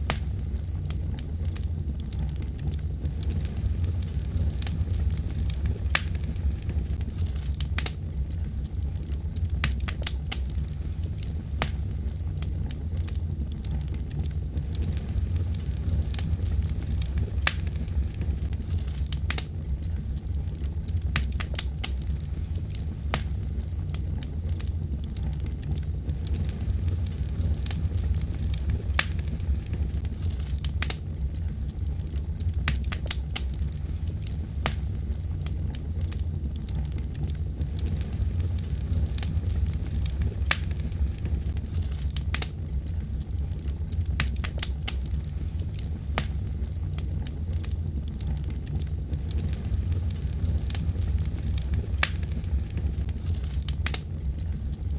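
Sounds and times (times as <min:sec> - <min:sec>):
fire crackling and popping: 0:00.0 - 0:54.9
low rumble of burning: 0:00.0 - 0:54.9.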